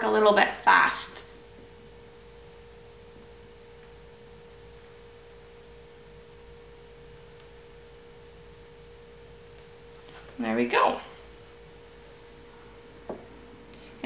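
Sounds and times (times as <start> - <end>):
faint steady tone: 0.1 - 14.0.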